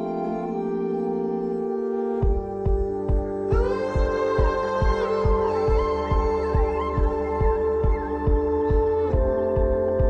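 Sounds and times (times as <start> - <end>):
background music with gliding melody: 0.0 - 10.0.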